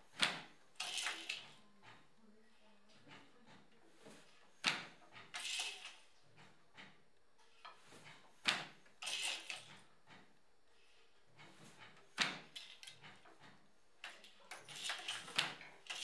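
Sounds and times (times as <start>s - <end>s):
loom rattling clatter: 0.0s - 16.0s.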